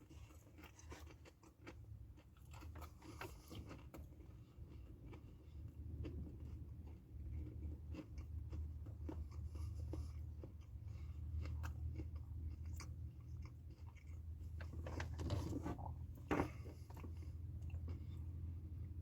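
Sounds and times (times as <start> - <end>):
chewing crunchy chips: 0.0 - 19.0.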